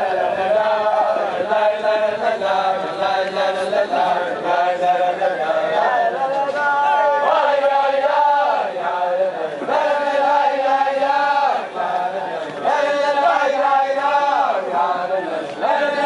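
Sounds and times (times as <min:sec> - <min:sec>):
men singing in unison: 0:00.0 - 0:16.0.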